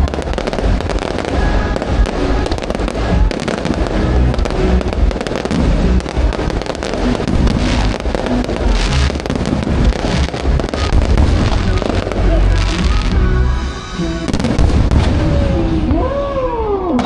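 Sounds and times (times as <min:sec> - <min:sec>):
fireworks booms: 0:00.0 - 0:13.3, 0:14.2 - 0:16.0
fireworks cracks and crackling: 0:00.0 - 0:17.0
music playing: 0:00.0 - 0:17.0.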